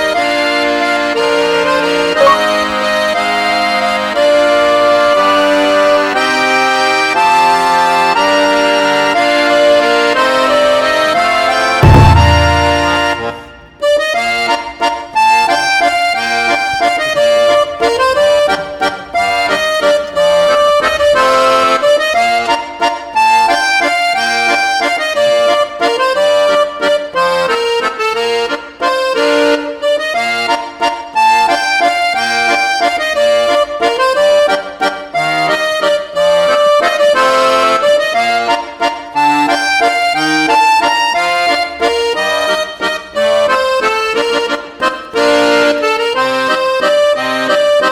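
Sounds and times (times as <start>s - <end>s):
accordion music with bouncing beat: 0.0s - 47.9s.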